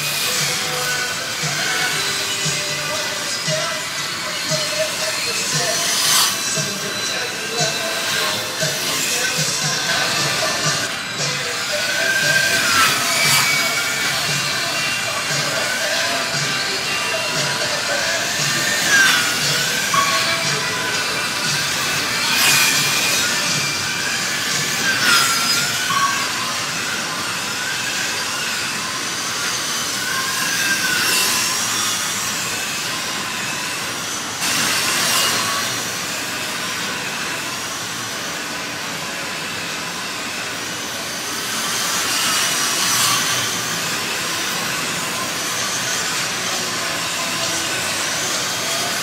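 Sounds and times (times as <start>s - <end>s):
slot car motors whining: 0.0s - 49.0s.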